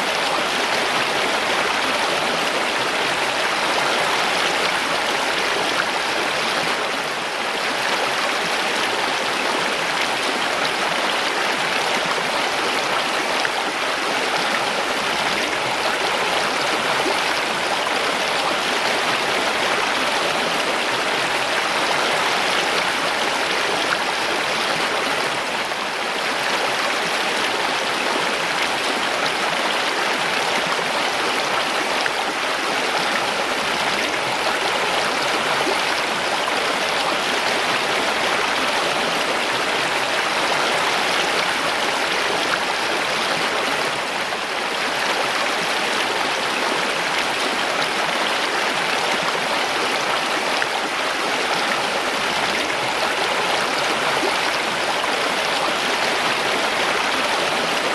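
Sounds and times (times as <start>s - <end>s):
stream rushing water: 0.0s - 57.9s.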